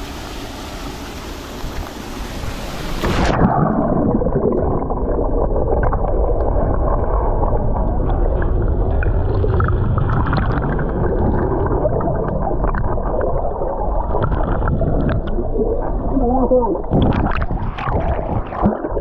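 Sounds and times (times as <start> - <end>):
muffled gurgling water: 0.0 - 19.0.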